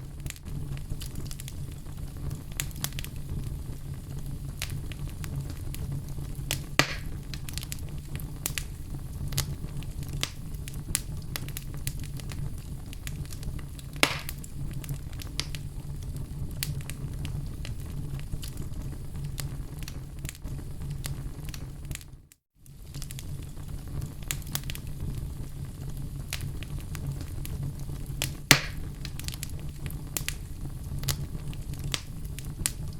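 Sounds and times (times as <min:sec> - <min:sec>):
fire crackling: 0:00.0 - 0:32.9
loud fire pops: 0:00.0 - 0:32.9
wood fire rumbling: 0:00.0 - 0:32.9.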